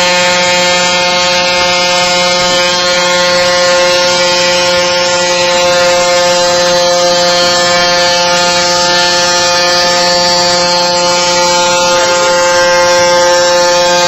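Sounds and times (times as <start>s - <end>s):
moped engine buzzing: 0.0s - 14.0s.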